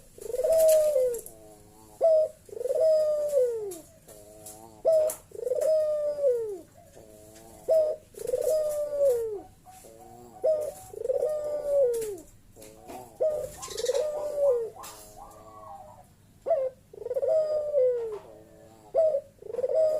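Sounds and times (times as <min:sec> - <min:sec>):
dove cooing: 0:00.0 - 0:19.9.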